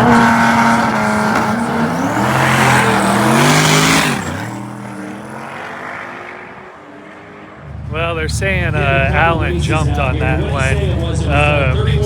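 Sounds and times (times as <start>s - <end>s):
race cars accelerating hard: 0.0s - 12.0s.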